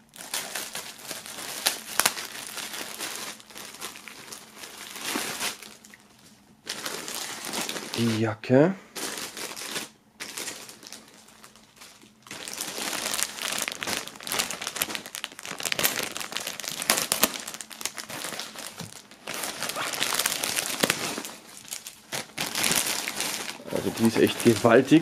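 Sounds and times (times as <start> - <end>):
plastic bag crinkling: 0.0 - 8.3, 8.9 - 25.0.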